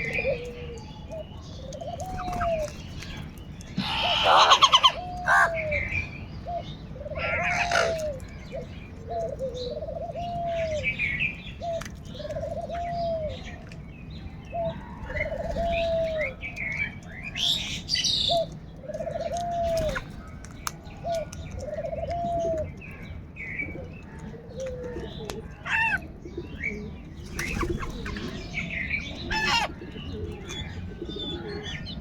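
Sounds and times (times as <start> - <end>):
bird cooing: 0.0 - 2.8, 3.7 - 11.0, 11.6 - 13.5, 14.5 - 16.4, 18.3 - 20.2, 21.0 - 22.8, 23.6 - 31.8
other birds chirping: 0.0 - 32.0.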